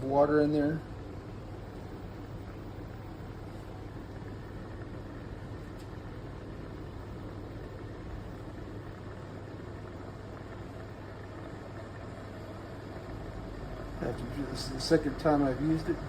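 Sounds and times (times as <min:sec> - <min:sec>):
electric kettle boiling: 0:00.0 - 0:16.0.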